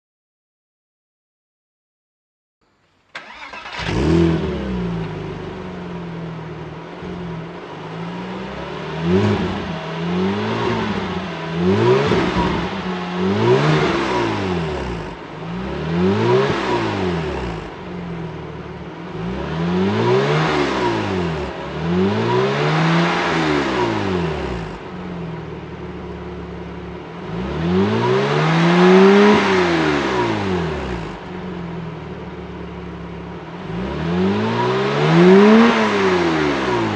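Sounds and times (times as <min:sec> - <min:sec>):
car engine revving: 0:03.1 - 0:36.9.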